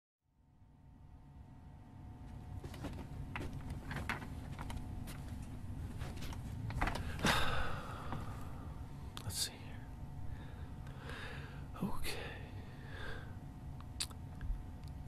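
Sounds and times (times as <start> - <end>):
low room rumble: 0.3 - 15.0.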